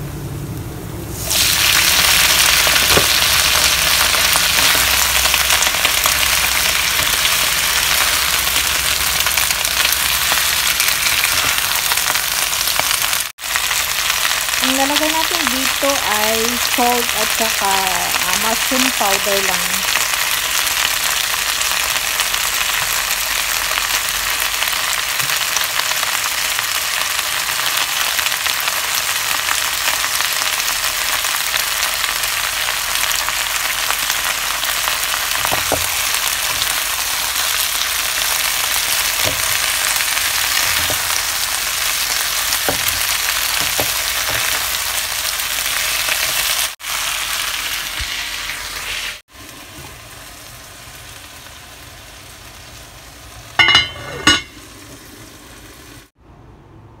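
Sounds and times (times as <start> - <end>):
spinach sizzling in hot oil: 1.1 - 56.1.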